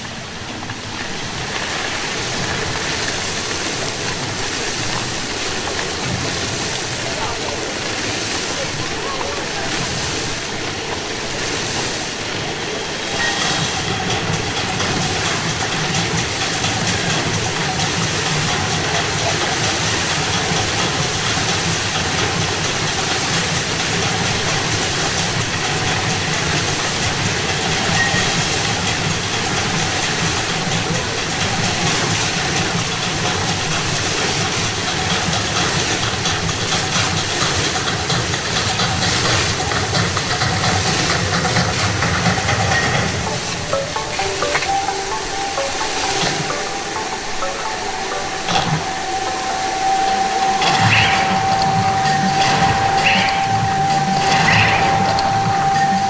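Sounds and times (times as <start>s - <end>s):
fountain water jets splashing: 0.0s - 56.0s.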